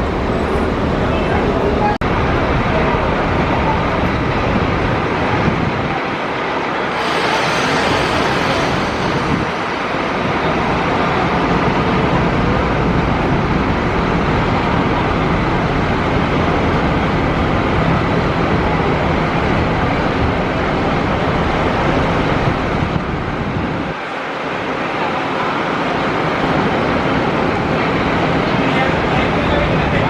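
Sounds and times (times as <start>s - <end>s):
coach engine and road noise: 0.0s - 30.0s.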